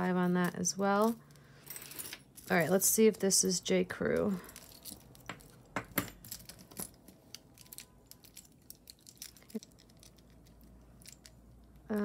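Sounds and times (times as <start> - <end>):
necklace beads clinking: 0.0 - 12.0.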